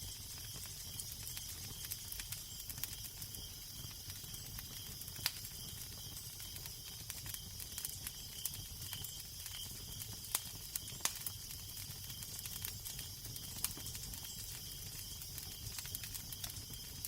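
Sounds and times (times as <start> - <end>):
wood fire crackling: 0.0 - 17.0
sharp pops of fire: 0.1 - 14.8.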